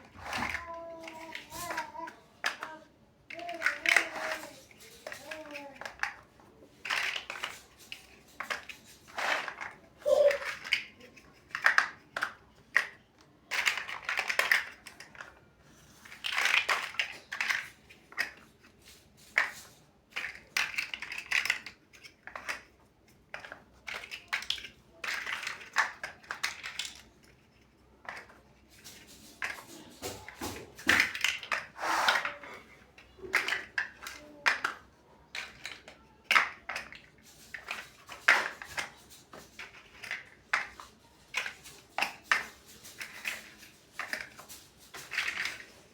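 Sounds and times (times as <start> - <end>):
plastic bricks clicking together: 0.0 - 32.4, 33.0 - 45.9.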